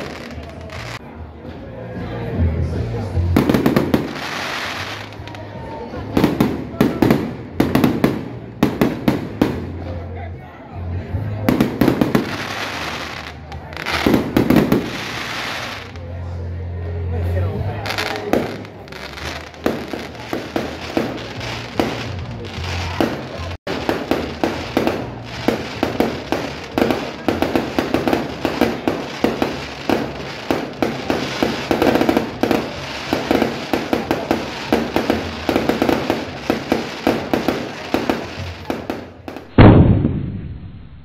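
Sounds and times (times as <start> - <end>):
fireworks bangs and crackles: 0.0 - 1.0, 3.0 - 10.2, 11.2 - 16.2, 17.6 - 41.0.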